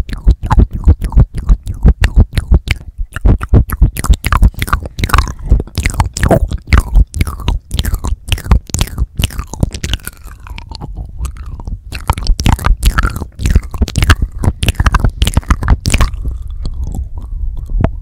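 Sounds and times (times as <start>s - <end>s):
lip smacks and licking clicks: 0.0s - 18.0s.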